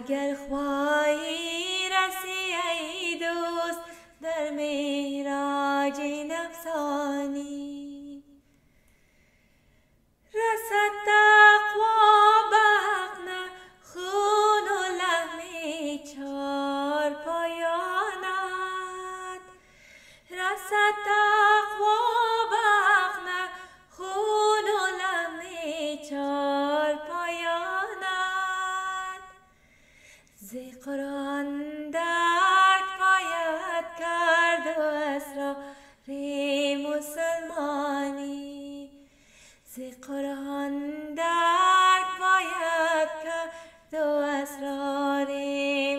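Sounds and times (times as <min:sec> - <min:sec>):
woman singing unaccompanied: 0:00.0 - 0:08.4, 0:10.3 - 0:19.6, 0:20.3 - 0:29.4, 0:30.4 - 0:39.0, 0:39.7 - 0:45.9.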